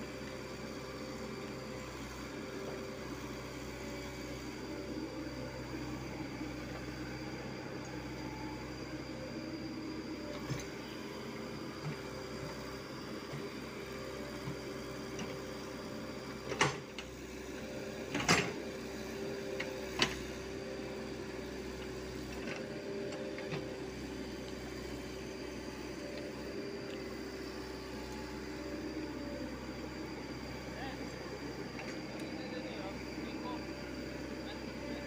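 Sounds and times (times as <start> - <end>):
excavator diesel engine humming: 0.0 - 35.0.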